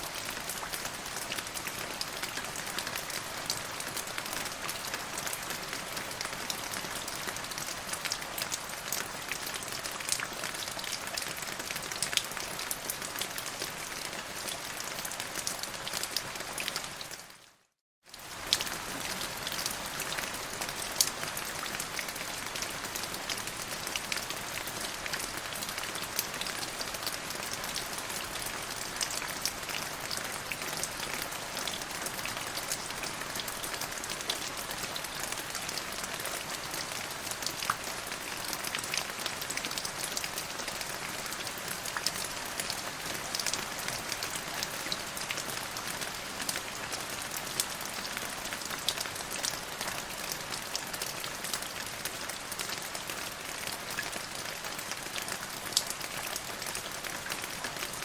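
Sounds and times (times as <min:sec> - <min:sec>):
rain on a hard surface: 0:00.0 - 0:58.0.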